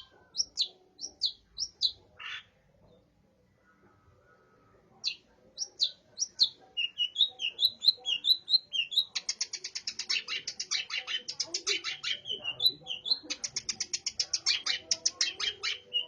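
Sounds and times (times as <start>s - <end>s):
shrike singing with chirps: 0.0s - 2.5s, 5.0s - 16.0s.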